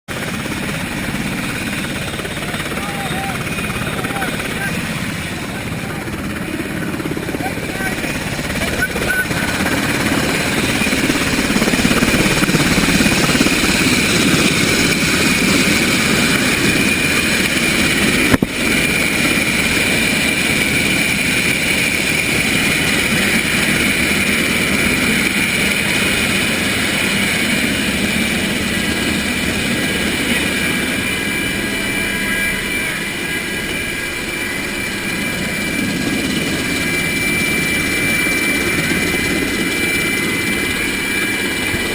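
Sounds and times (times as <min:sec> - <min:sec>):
helicopter rotor noise: 0:00.1 - 0:41.9
helicopter turbine whine: 0:00.1 - 0:41.9.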